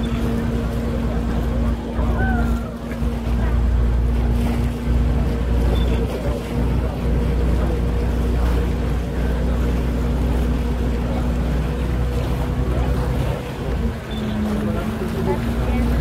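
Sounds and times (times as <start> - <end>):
motorboat engine humming: 0.0 - 16.0
water washing: 0.0 - 16.0.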